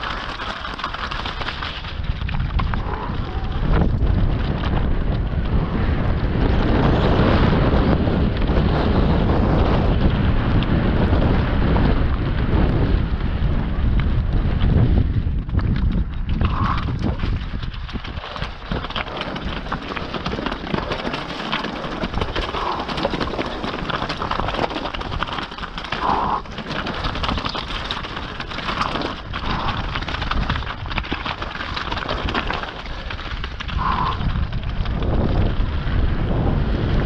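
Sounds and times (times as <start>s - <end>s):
bike tyres clattering over rock: 0.0s - 37.0s.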